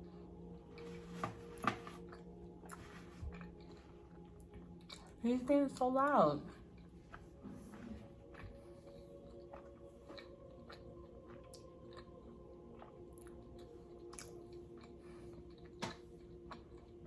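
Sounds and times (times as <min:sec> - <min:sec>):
chewing crunchy chips: 0:00.1 - 0:05.2, 0:08.2 - 0:17.0.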